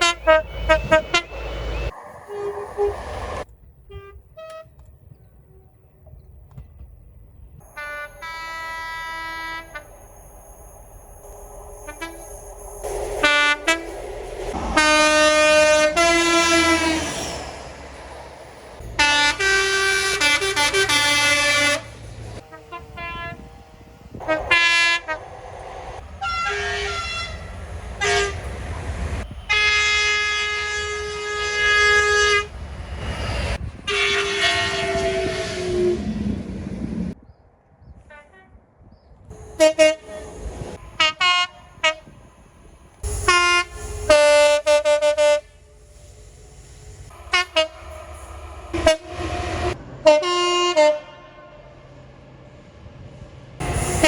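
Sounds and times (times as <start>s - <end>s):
train air horns: 0.0s - 4.9s, 7.6s - 17.9s, 18.8s - 36.4s, 39.3s - 51.8s, 53.6s - 54.0s
low rumble of trains: 0.0s - 54.0s.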